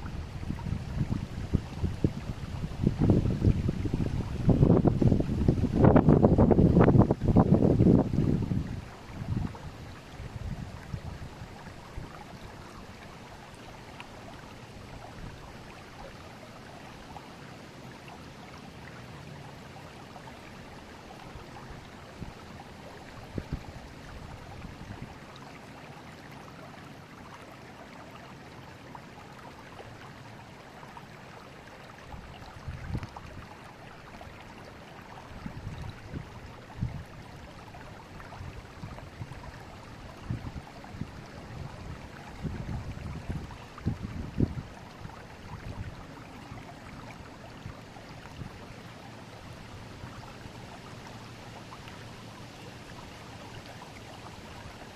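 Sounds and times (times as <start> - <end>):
river water rushing and gurgling: 0.0 - 54.9.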